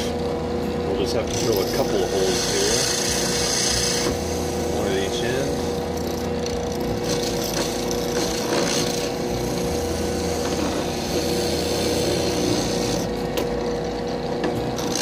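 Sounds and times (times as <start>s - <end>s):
drill press motor humming: 0.0s - 15.0s
drill bit grinding carbon fibre: 1.2s - 13.2s, 14.8s - 15.0s.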